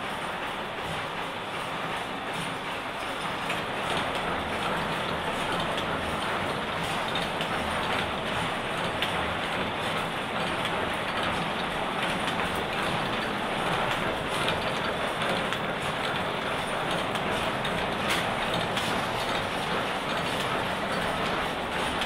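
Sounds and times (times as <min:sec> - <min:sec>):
weaving machines clattering: 0:00.0 - 0:22.0.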